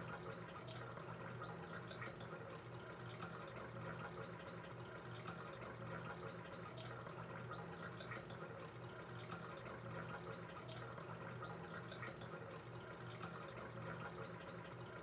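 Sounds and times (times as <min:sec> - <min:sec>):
drip-like ticks: 0:00.0 - 0:15.0
faint water sound: 0:00.0 - 0:15.0
low steady hum: 0:00.0 - 0:15.0.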